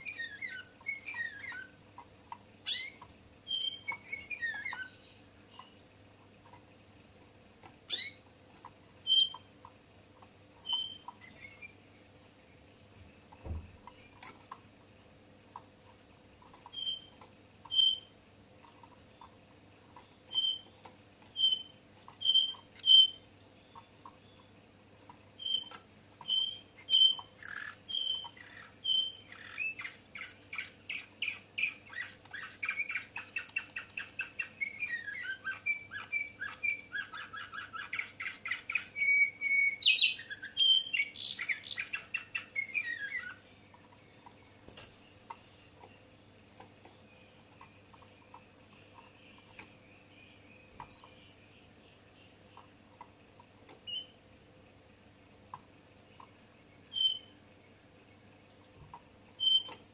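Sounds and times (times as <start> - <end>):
canary singing: 0.0 - 54.3, 55.4 - 59.9.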